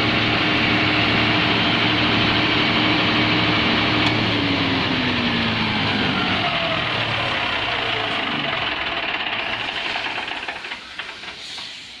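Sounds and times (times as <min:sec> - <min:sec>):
diesel generator engine shutting down: 0:00.0 - 0:11.9.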